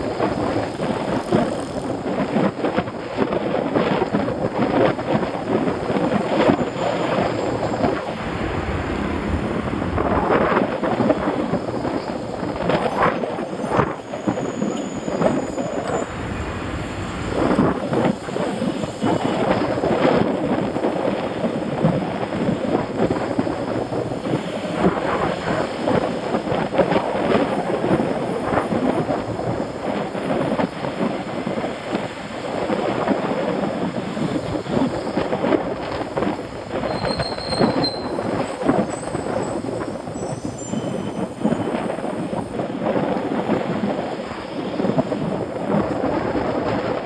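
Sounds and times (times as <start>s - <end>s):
road vibration rattling: 0.0s - 47.0s
wind buffeting microphone: 0.0s - 47.0s.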